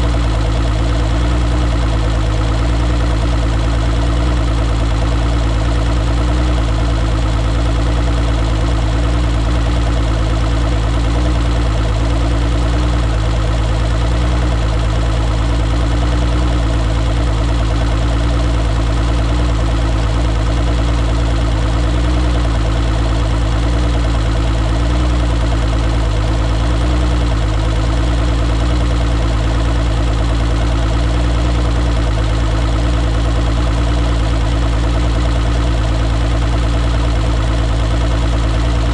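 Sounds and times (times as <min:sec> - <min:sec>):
outboard engine idling: 0:00.0 - 0:38.9.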